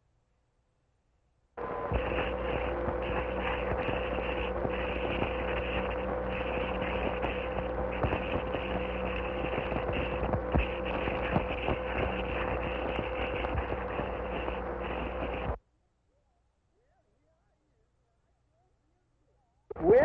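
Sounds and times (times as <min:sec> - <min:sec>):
steady hum-like tone: 0:01.6 - 0:20.0.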